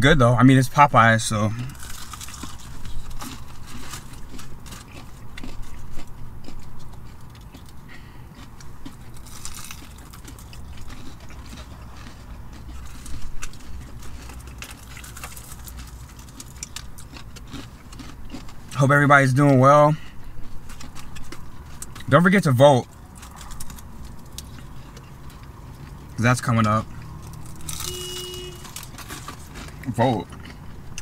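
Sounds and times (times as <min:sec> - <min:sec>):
chewing crispy chicken: 0:01.5 - 0:31.0.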